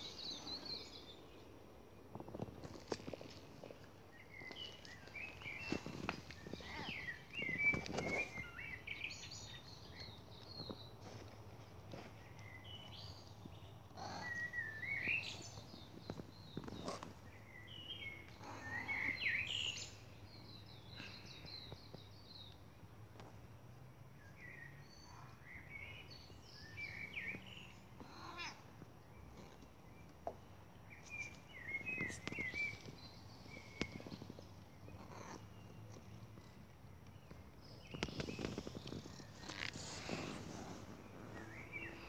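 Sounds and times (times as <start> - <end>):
small birds chirping: 0.0 - 23.5, 24.2 - 42.0.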